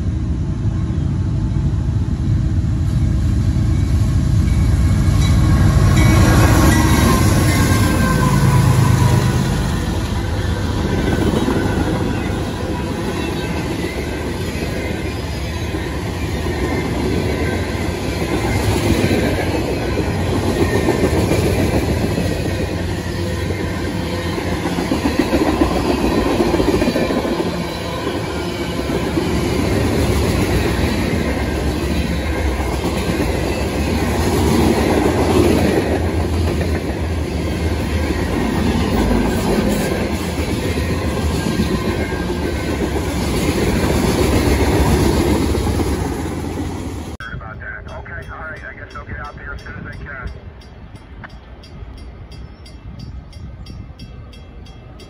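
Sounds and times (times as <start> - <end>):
freight train cars rolling past: 0.0 - 47.2.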